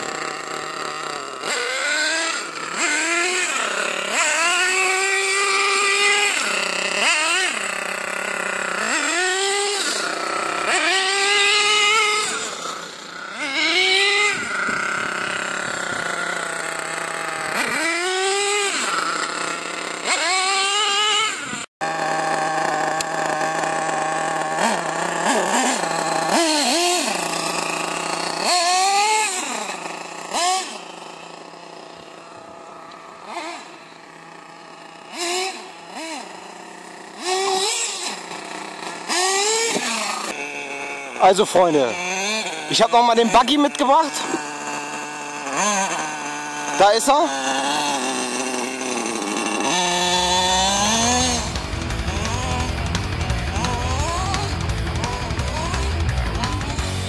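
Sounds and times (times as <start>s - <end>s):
small nitro engine revving: 0.0s - 57.0s.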